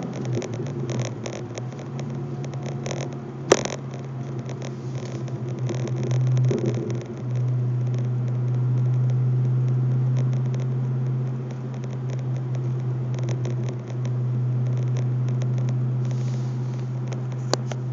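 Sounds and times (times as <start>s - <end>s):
deep engine drone from cabin: 0.0s - 17.9s.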